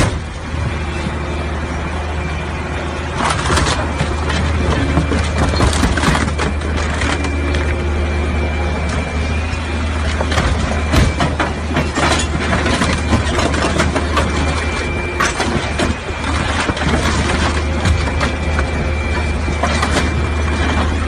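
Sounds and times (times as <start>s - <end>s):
grapple machine droning: 0.0s - 21.0s
metal crunching and cracking: 3.2s - 8.0s, 8.8s - 21.0s.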